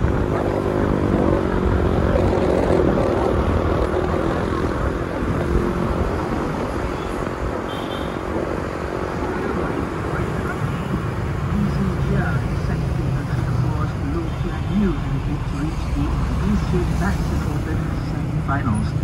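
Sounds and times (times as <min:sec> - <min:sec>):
car engine hum: 0:00.0 - 0:19.0
city traffic noise: 0:00.0 - 0:19.0.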